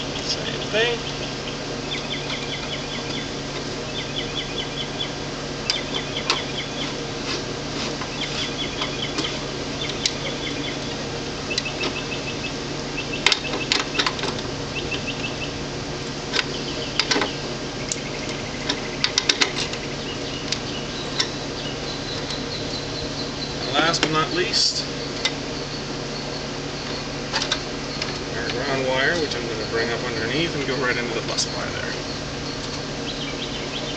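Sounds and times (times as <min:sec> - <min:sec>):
steady low hum: 0:00.0 - 0:33.9
small bird chirping: 0:00.4 - 0:07.0, 0:08.0 - 0:15.6, 0:16.4 - 0:33.9.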